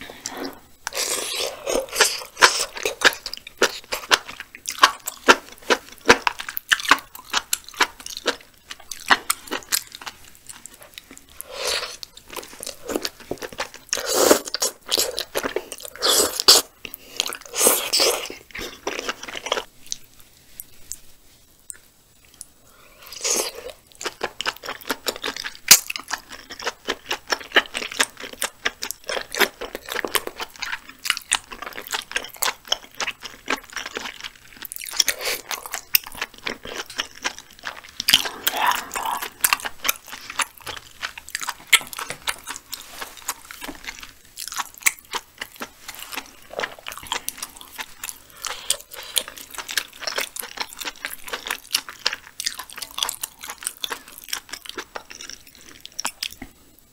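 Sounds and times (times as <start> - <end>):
close chewing with mouth clicks: 0.2 - 56.8.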